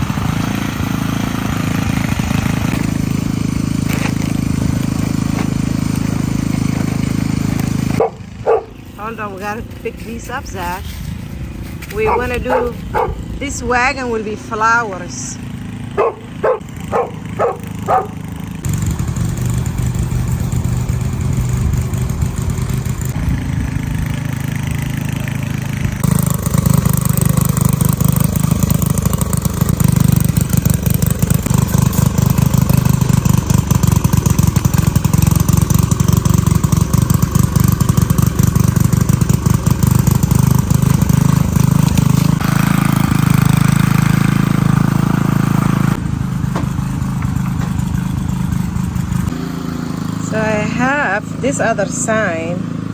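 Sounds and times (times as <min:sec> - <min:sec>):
small petrol engine running: 0:00.0 - 0:52.9.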